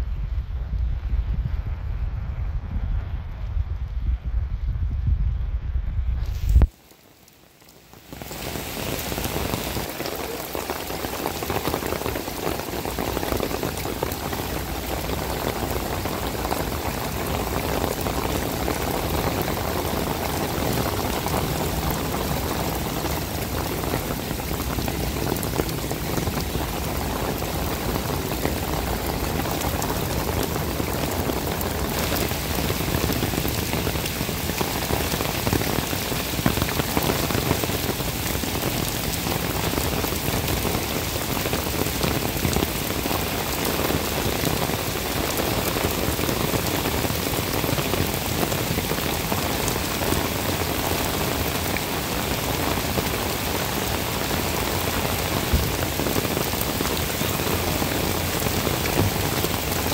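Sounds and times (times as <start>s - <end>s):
heavy rain on wet pavement: 6.2s - 59.9s.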